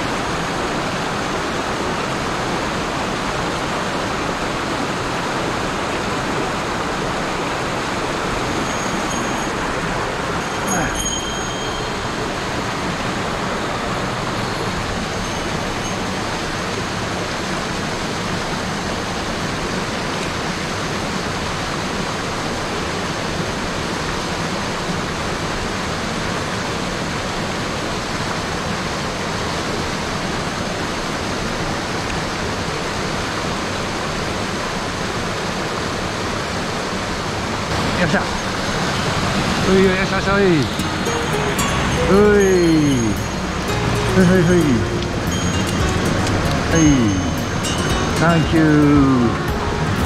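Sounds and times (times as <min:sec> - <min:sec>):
stream rushing over boulders: 0:00.0 - 0:50.0.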